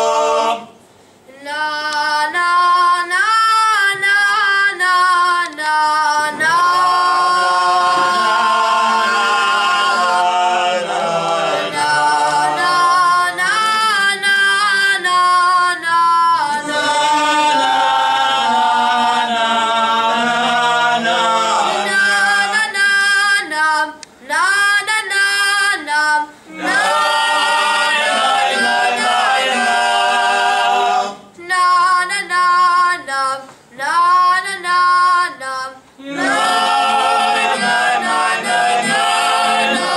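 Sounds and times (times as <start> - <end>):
men singing unaccompanied prayers: 1.4 - 39.9.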